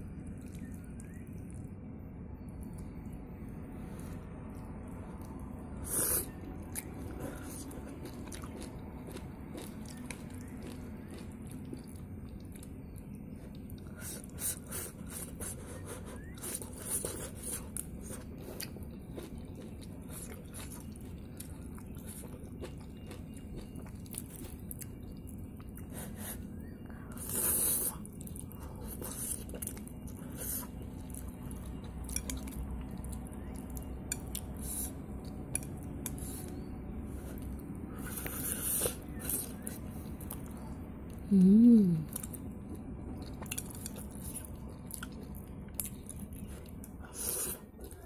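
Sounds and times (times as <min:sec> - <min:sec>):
low background noise: 0:00.0 - 0:48.0
person chewing noodles: 0:03.8 - 0:48.0.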